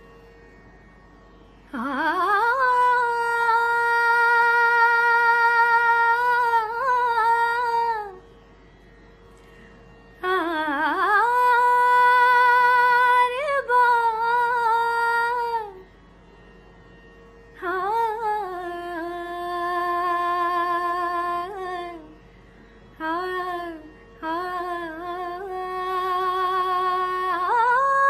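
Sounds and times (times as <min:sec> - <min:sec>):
faint steady drone: 0:00.0 - 0:28.0.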